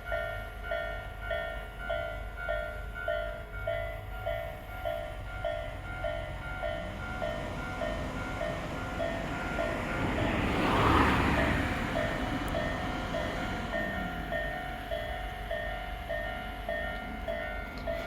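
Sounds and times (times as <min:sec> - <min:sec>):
level crossing alarm bell: 0:00.0 - 0:18.0
train passing: 0:00.0 - 0:18.0.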